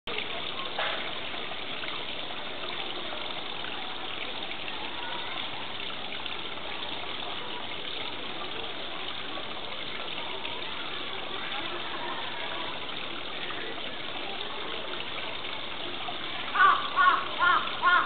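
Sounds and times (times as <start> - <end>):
running water rushing: 0.1 - 18.0.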